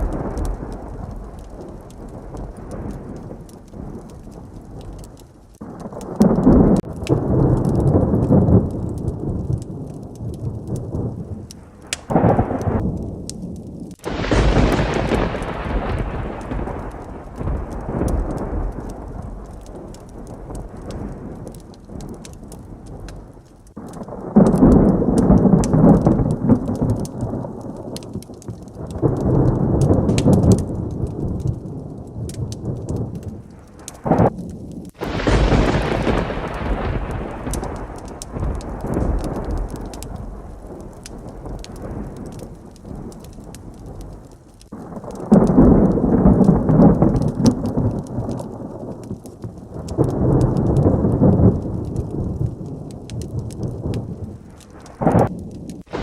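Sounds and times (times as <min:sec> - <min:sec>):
heavy rain: 0:00.0 - 0:56.0
sharp thunder crack: 0:00.0 - 0:56.0
thunder rumbling: 0:00.0 - 0:56.0.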